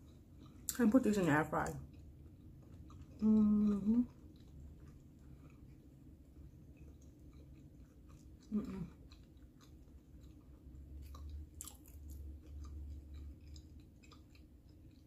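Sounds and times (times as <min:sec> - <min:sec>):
person chewing: 0:00.0 - 0:00.8, 0:01.8 - 0:15.0.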